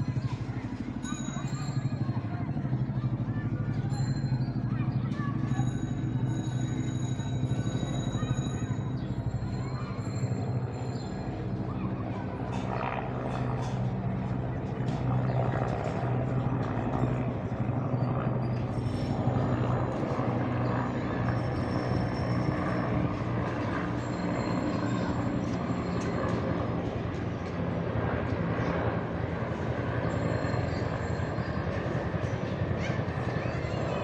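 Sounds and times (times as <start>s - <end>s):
helicopters flying by: 0.0s - 34.0s.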